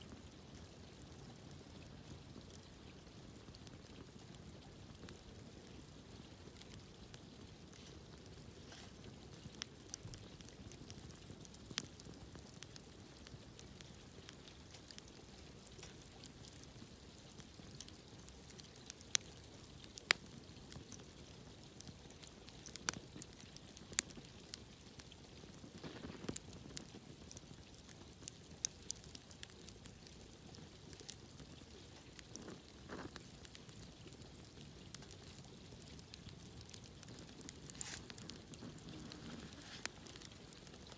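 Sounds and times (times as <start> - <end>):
campfire crackling: 0.0 - 40.9
faint steady hiss: 0.0 - 40.9
fire popping: 0.1 - 40.9.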